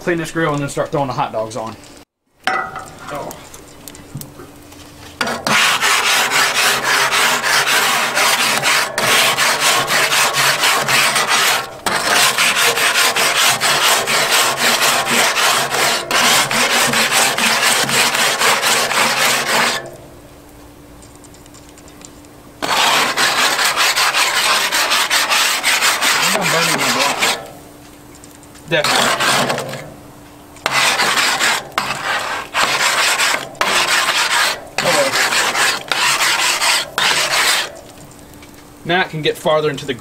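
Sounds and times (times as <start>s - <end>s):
grill brush scraping grates: 4.8s - 20.0s, 21.0s - 30.0s, 30.6s - 38.6s.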